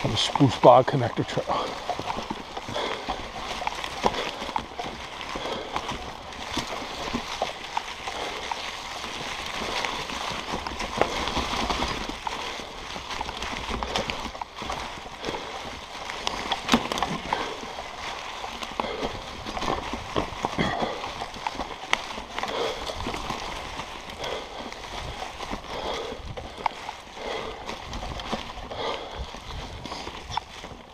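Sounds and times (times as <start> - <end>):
bike clicks and knocks: 0.0 - 30.9
tyres crunching through dry leaves: 0.0 - 30.9.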